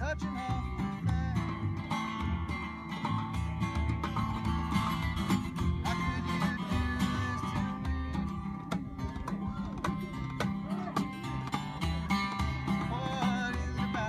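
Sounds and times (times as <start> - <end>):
hand drum beaten steadily: 0.0 - 14.0
plucked double bass: 0.0 - 14.0
strummed acoustic guitar: 0.0 - 14.0.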